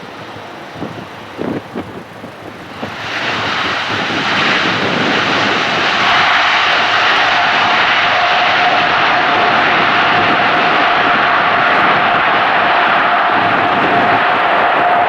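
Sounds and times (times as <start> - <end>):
jet engines roaring: 0.0 - 15.0
steady engine whine: 0.0 - 15.0.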